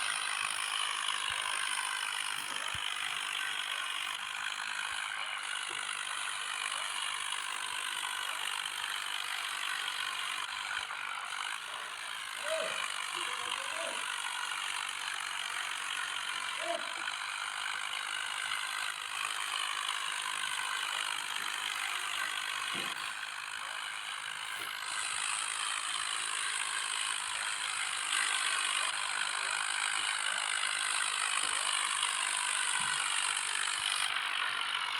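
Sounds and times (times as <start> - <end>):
tractor engines clattering: 0.0 - 34.9.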